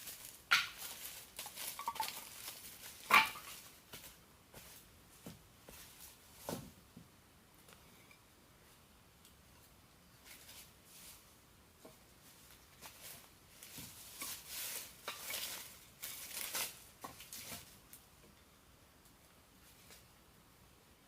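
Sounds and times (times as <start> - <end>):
rustling with light clicks: 0.0 - 6.6, 9.2 - 20.2.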